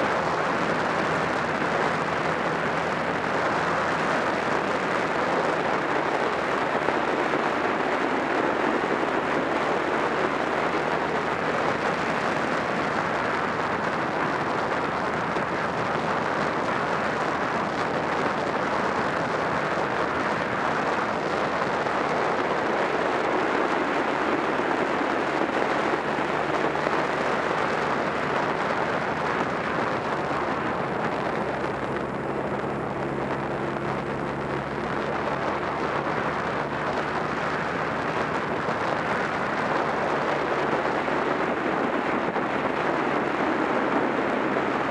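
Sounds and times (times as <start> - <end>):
motorcycle engine cruising: 0.0 - 44.9
wind rushing over microphone: 0.0 - 44.9.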